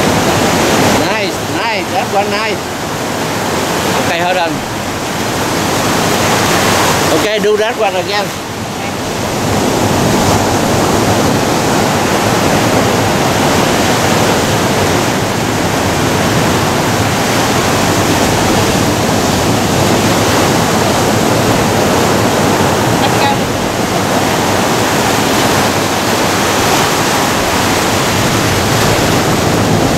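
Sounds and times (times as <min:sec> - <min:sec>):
ocean surf breaking on boulders: 0:00.0 - 0:29.9.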